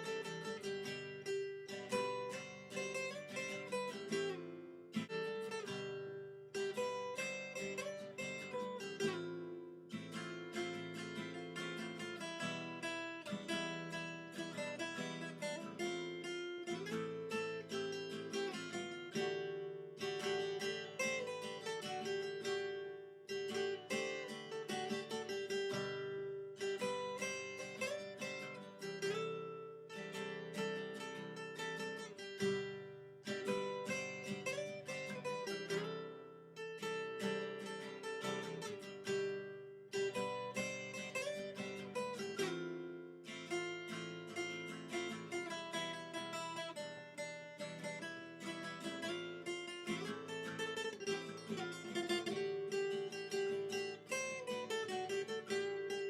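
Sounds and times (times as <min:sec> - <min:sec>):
acoustic guitar picking and strumming: 0:00.0 - 0:56.0.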